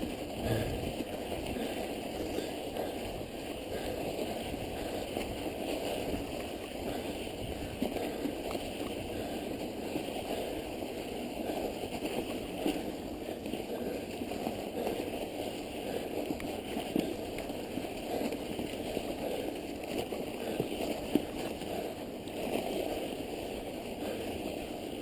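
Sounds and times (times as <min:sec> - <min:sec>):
bike riding through snow: 0:00.0 - 0:25.0.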